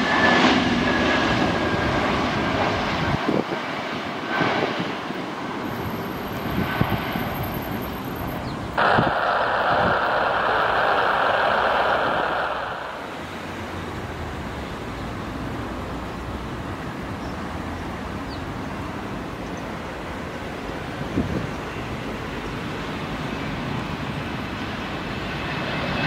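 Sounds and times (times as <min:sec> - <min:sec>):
jet engine rushing: 0:00.0 - 0:15.6, 0:18.5 - 0:26.0
rumble of wind: 0:00.0 - 0:26.0.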